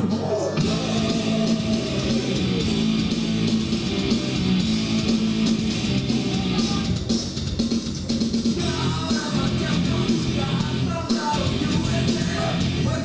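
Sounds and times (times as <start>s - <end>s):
guitar through amplifier: 0.0s - 7.1s, 8.5s - 13.0s.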